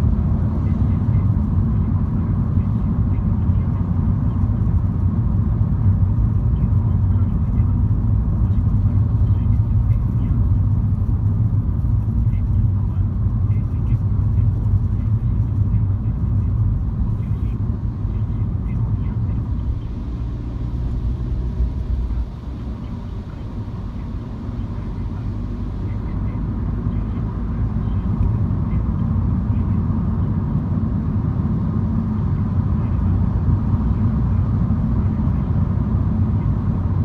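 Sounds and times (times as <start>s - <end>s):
car interior engine and road rumble: 0.0s - 37.0s.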